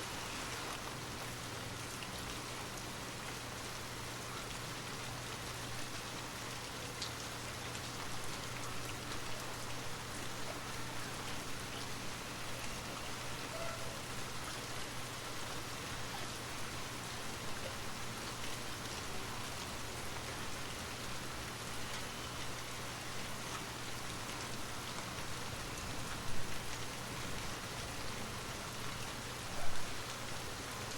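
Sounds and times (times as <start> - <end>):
rain falling: 0.0 - 30.9.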